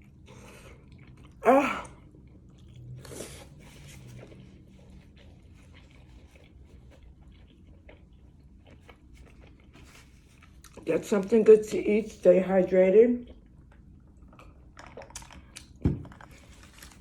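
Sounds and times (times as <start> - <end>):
person chewing food: 0.0 - 11.3, 13.2 - 17.0.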